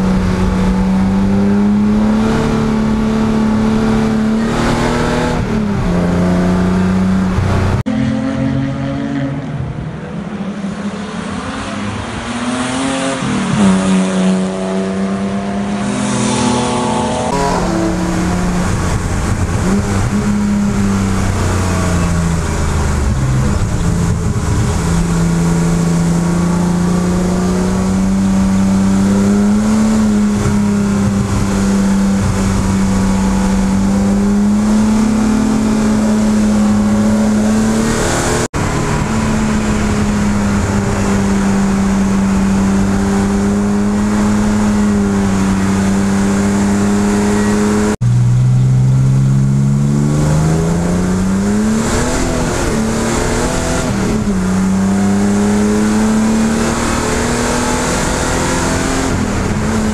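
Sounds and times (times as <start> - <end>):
car engine passing by: 0.0 - 59.9.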